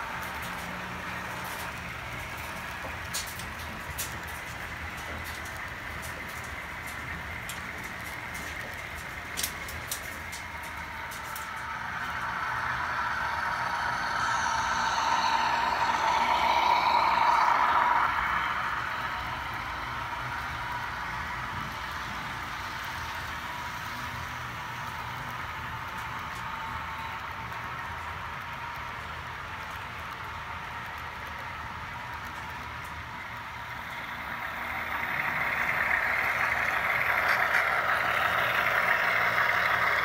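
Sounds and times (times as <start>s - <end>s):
model train running on track: 0.0s - 40.0s.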